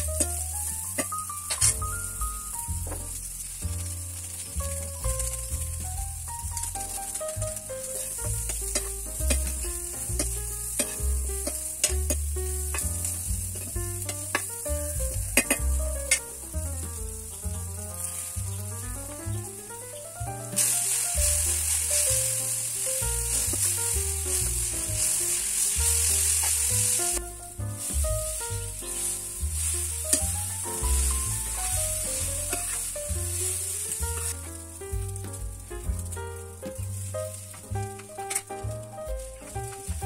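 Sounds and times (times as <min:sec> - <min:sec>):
background music: 0:00.0 - 0:40.0
vegetables sizzling in frying pan: 0:00.0 - 0:40.0.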